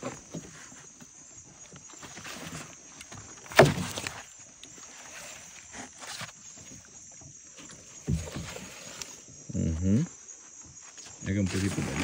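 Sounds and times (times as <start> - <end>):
knocks and shuffling in a canoe: 0.0 - 12.0.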